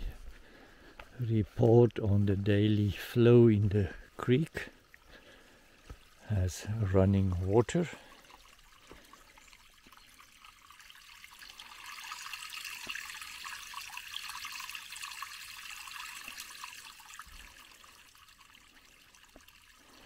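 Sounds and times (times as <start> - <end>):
creek water trickling through stones: 0.0 - 20.0.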